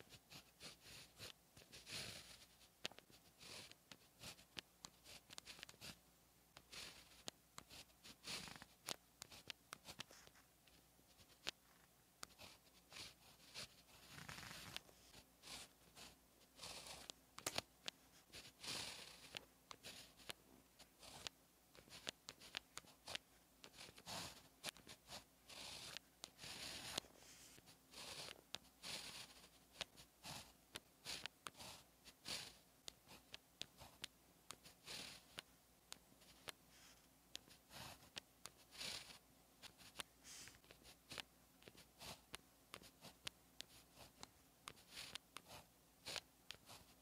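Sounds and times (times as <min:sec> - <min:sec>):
pen scratching on paper: 0:00.0 - 0:06.0, 0:06.6 - 0:47.0.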